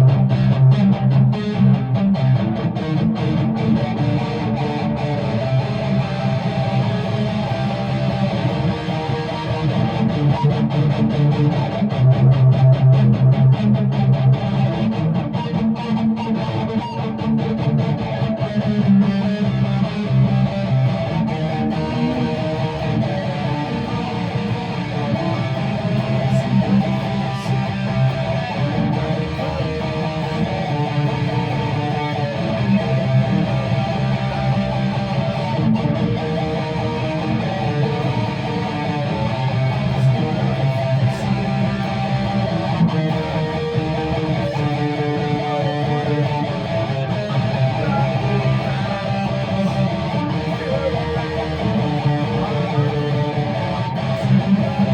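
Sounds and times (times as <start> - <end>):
guitar chords: 0.0 - 54.9.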